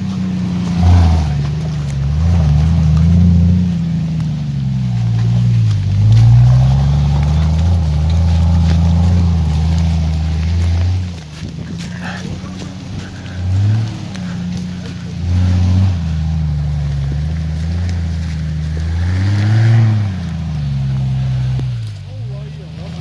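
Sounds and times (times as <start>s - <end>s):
engine revving: 0.0s - 23.0s.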